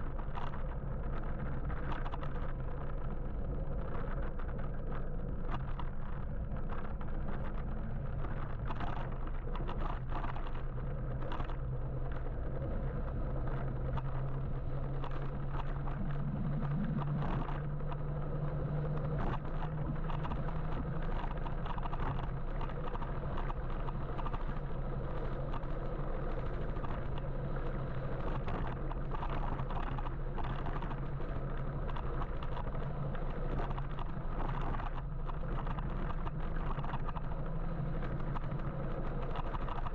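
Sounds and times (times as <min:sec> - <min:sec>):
low hum: 0:00.0 - 0:39.9
road and traffic noise: 0:00.0 - 0:39.9.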